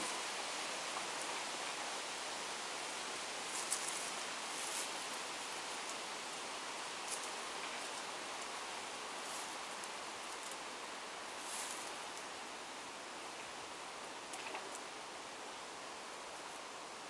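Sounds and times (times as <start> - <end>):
woodland ambience hiss: 0.0 - 17.0.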